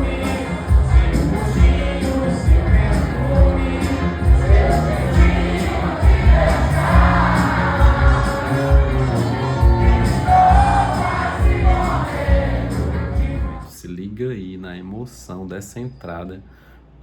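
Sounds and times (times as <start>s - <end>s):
audience cheering and singing along: 0.0s - 13.7s
live band playing: 0.0s - 13.7s
person singing: 0.0s - 13.7s.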